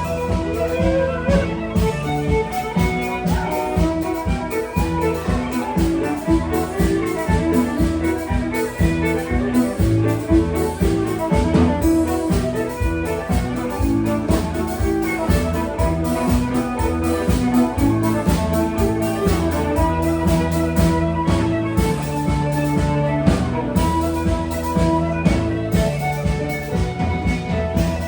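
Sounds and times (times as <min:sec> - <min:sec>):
fiddle lead: 0:00.0 - 0:28.0
keyboard: 0:00.0 - 0:28.0
percussion beat: 0:00.0 - 0:28.0.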